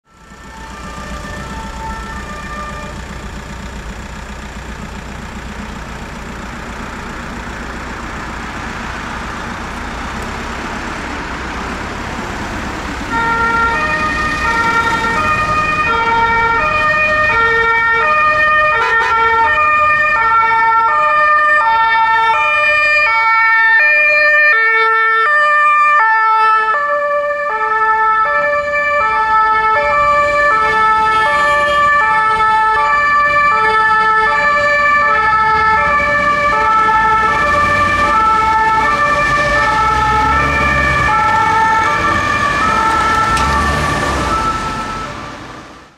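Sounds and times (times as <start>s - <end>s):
road traffic noise: 0.0s - 45.9s
two-tone ambulance siren: 0.0s - 45.9s.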